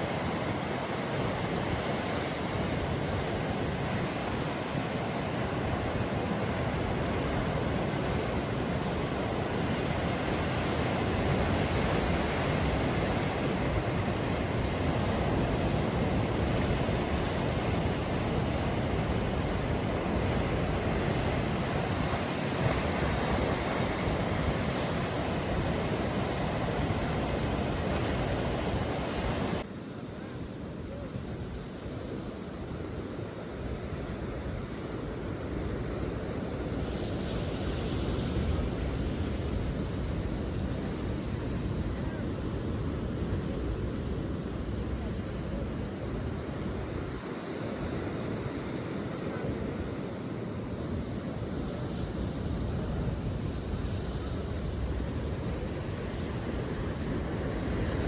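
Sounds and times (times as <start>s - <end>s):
ocean surf washing ashore: 0.0s - 58.0s.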